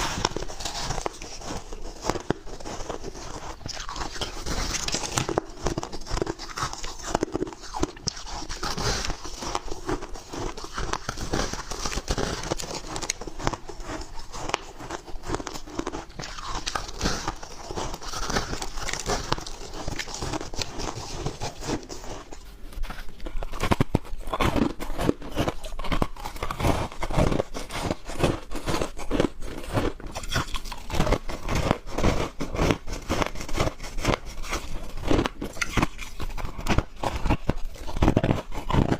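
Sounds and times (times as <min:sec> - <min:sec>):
biting and crunching ice: 0:00.0 - 0:38.9.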